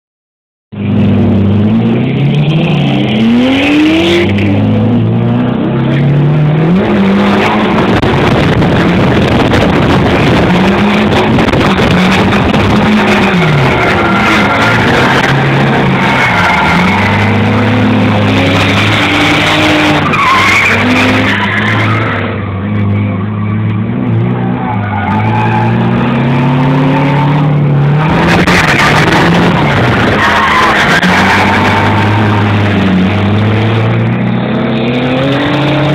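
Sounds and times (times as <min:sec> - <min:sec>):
car engine revving: 0:00.8 - 0:35.9
tyres skidding and squealing: 0:00.8 - 0:35.9.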